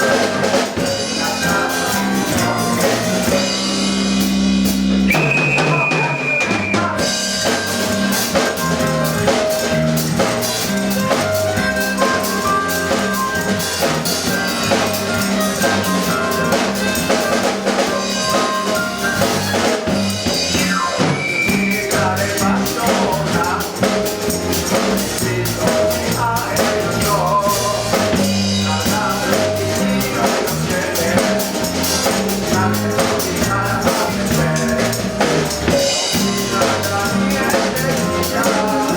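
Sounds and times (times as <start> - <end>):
drum kit beat: 0.0 - 38.9
live band music: 0.0 - 38.9.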